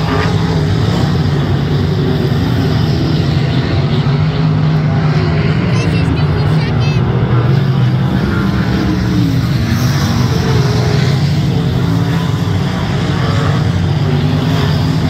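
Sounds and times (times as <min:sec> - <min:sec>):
racing car engines droning: 0:00.0 - 0:15.0.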